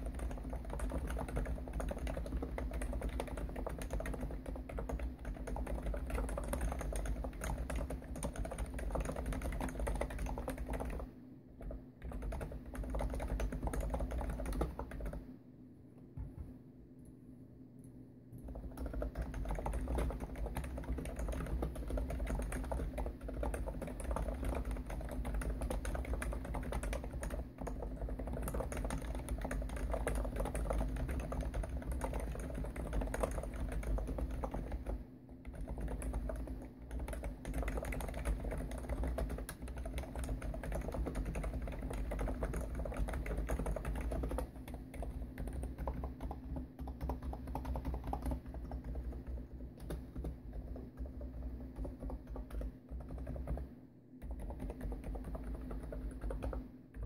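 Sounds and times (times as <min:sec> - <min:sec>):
fast keyboard typing: 0:00.0 - 0:15.3, 0:18.4 - 0:57.0.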